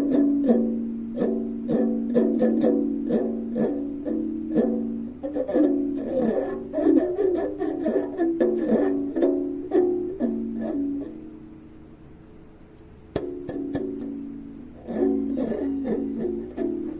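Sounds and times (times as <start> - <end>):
plucked string instrument: 0.0 - 11.9, 12.8 - 16.9.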